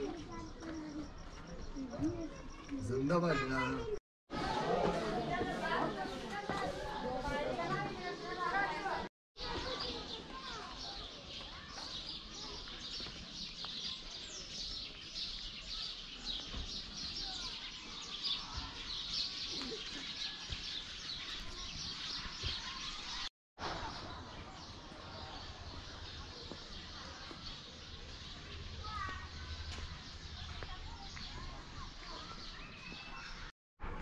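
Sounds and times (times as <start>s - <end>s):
small birds chirping: 0.0s - 4.0s, 5.2s - 33.5s.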